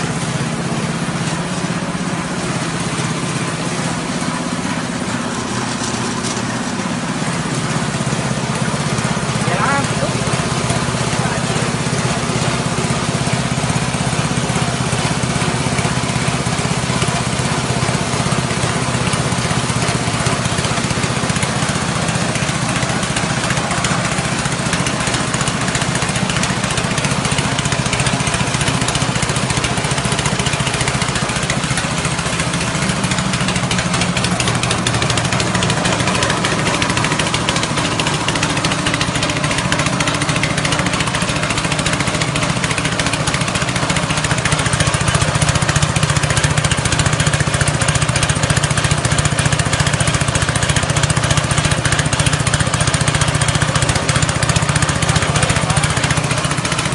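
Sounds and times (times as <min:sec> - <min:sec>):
grinding machine grinding: 0:00.0 - 0:56.9
petrol engine hum: 0:00.0 - 0:56.9.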